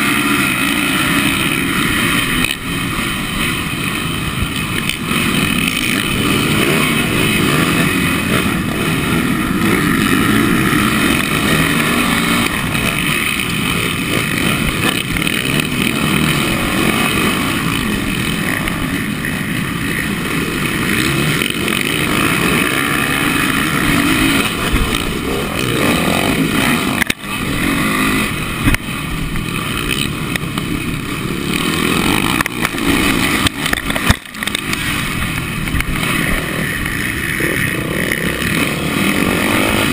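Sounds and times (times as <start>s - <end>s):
motocross motorcycle engines: 0.0s - 39.9s.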